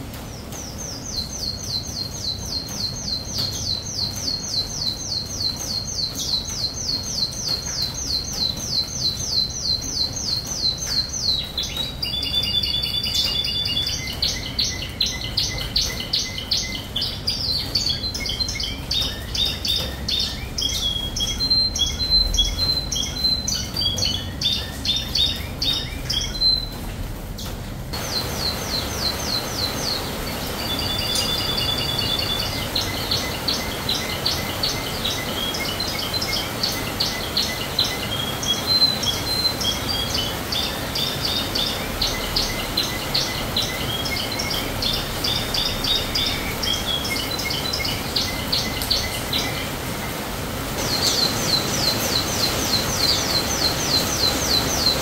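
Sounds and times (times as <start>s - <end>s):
canary singing trills: 0.3s - 26.8s, 27.4s - 49.8s, 50.8s - 55.0s.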